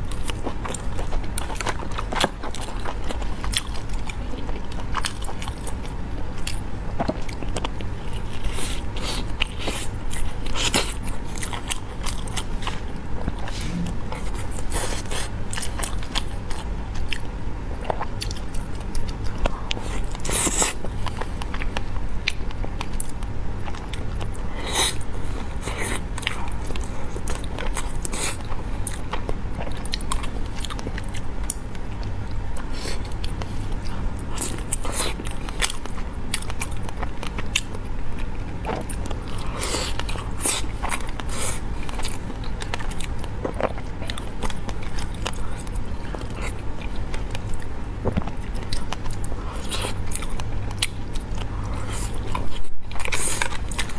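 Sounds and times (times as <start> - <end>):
chewing with wet mouth clicks: 0.0 - 53.9
steady low hum: 0.0 - 53.9.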